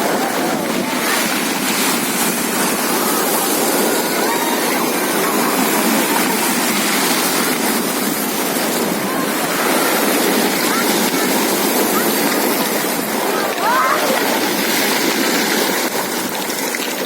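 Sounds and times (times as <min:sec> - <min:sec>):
waves breaking on shore: 0:00.0 - 0:17.0.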